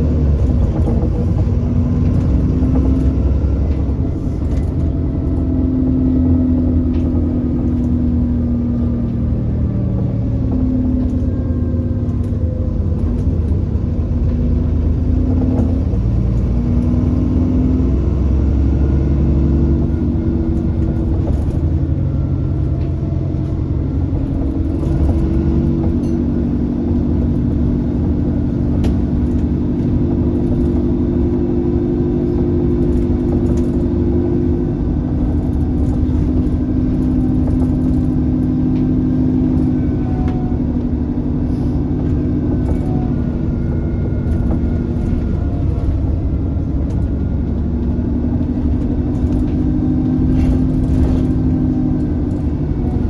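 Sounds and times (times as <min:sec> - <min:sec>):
bus diesel engine rumbling: 0:00.0 - 0:53.0.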